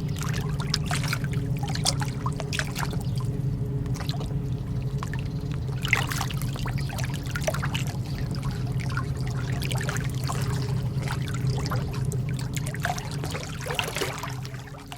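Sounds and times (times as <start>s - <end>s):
lake water lapping and trickling: 0.0s - 14.9s
steady low hum: 0.0s - 14.9s.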